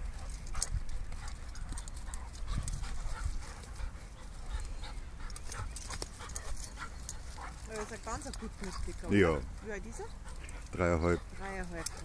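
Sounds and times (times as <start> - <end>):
dogs breathing: 0.0 - 12.0
dogs vocalizing: 0.0 - 12.0.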